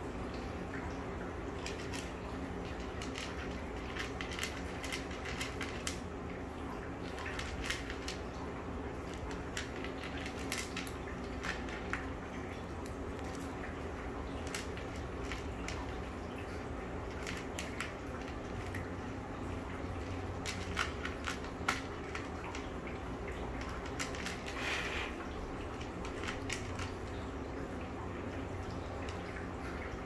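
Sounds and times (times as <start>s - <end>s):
low background hum: 0.0s - 30.0s
cat chewing food: 1.5s - 27.2s.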